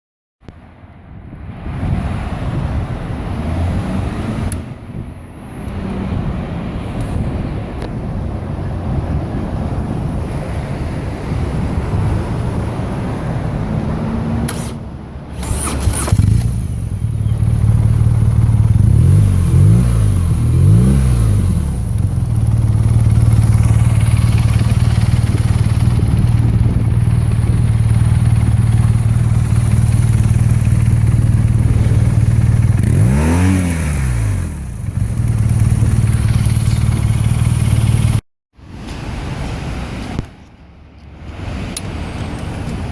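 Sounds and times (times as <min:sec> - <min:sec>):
motorcycle engine idling and revving: 0:02.7 - 0:38.2.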